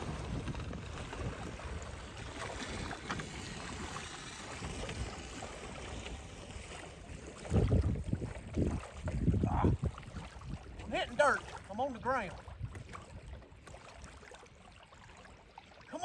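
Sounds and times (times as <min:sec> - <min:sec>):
wind buffeting microphone: 0:00.0 - 0:13.5
water sloshing and splashing: 0:00.0 - 0:16.0.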